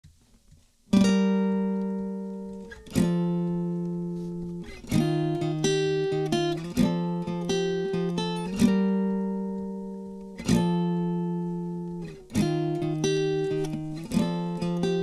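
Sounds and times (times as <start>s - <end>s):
acoustic guitar chords: 0.9s - 15.0s.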